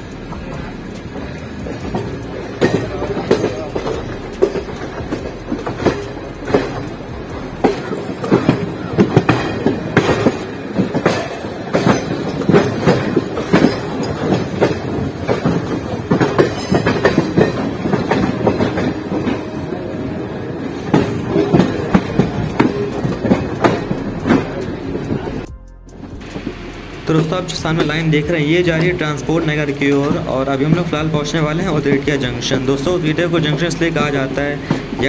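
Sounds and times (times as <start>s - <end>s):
train wheels clattering over rails: 0.0s - 25.5s, 26.1s - 35.0s
rolling rumble: 0.0s - 35.0s.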